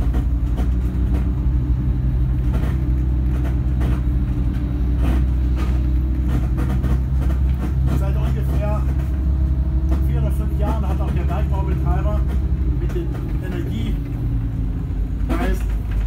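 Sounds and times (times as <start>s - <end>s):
light knocks and rattles: 0.0s - 16.0s
vehicle engine rumble from inside: 0.0s - 16.0s.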